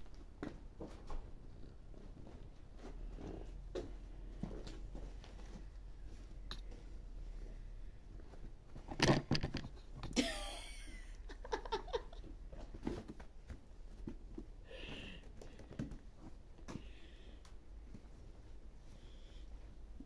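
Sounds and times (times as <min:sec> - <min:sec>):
small knocks and rustling: 0:00.0 - 0:10.2, 0:11.9 - 0:14.6, 0:15.2 - 0:19.0.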